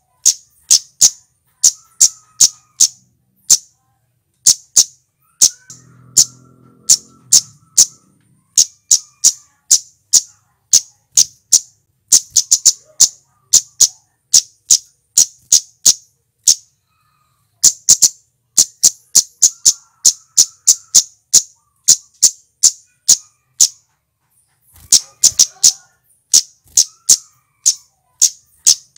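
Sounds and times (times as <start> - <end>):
high bird chip calls: 0.0 - 3.7, 4.4 - 23.9, 24.6 - 28.9.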